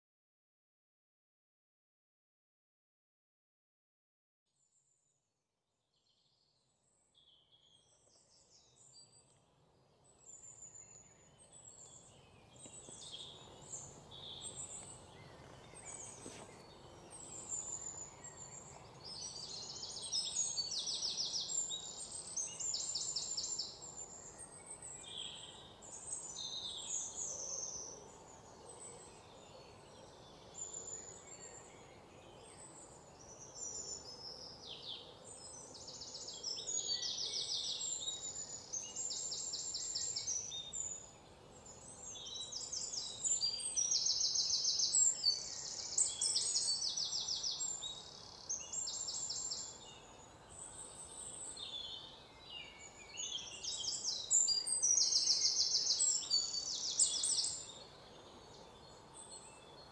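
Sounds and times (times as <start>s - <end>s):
steady background hiss: 8.3s - 59.9s
birds chirping and trilling: 10.0s - 59.9s.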